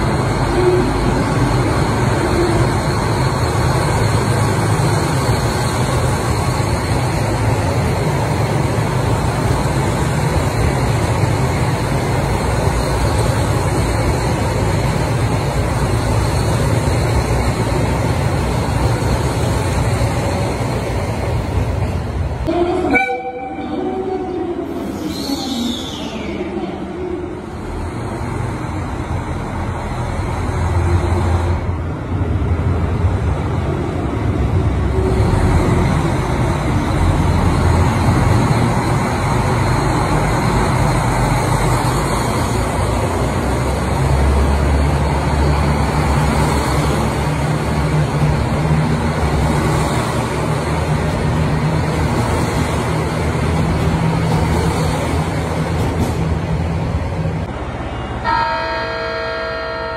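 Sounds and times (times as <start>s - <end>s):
carriages rumbling on rails: 0.0s - 59.9s
diesel train engine running: 0.0s - 59.9s.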